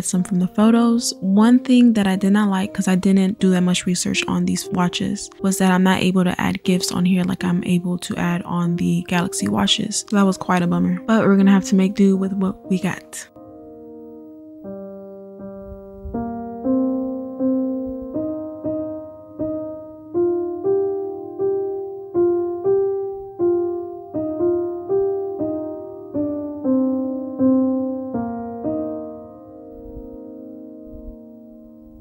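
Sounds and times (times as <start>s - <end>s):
slow piano music: 0.0s - 32.0s.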